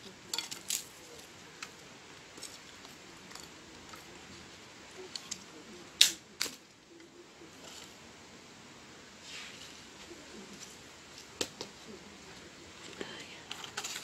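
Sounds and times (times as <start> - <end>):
firewood sticks cracking: 0.0 - 8.0, 9.8 - 11.9, 12.8 - 14.0.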